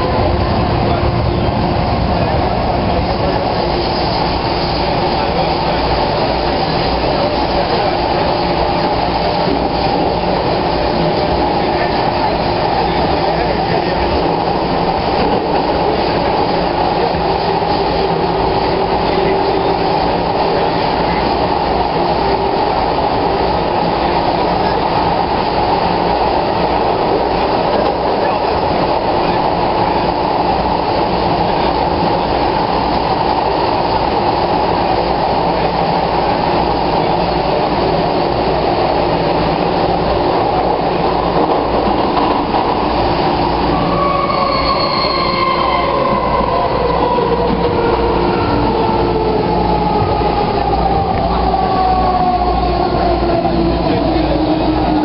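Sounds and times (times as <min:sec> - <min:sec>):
metro train rumbling: 0:00.0 - 0:55.0.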